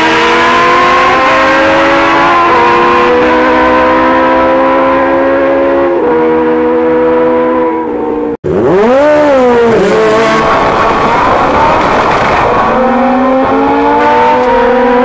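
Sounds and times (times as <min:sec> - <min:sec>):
motorcycle engine revving: 0:00.0 - 0:15.0
motorcycle engines at high revs: 0:00.0 - 0:15.0.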